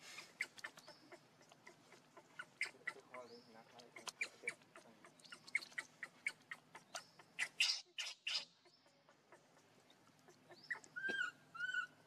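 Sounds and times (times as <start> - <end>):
baby monkey squeaking and squealing: 0.4 - 3.2, 3.9 - 9.6, 10.5 - 12.0.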